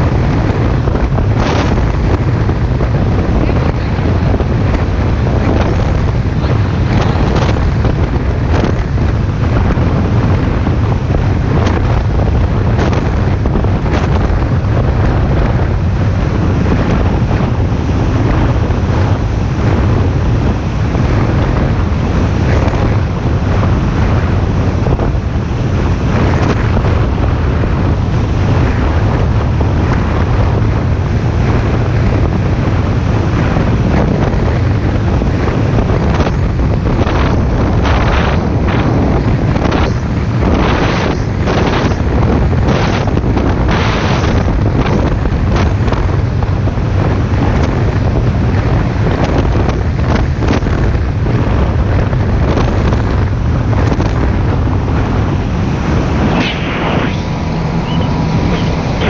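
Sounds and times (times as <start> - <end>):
boat engine drone: 0.0 - 59.0
hull slapping waves: 0.0 - 59.0
wind buffeting microphone: 0.0 - 59.0.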